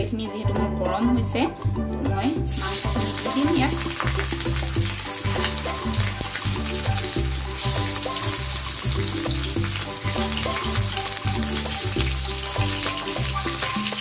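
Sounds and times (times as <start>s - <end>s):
background music with bass line: 0.0s - 14.0s
chicken sizzling in hot oil: 2.5s - 14.0s.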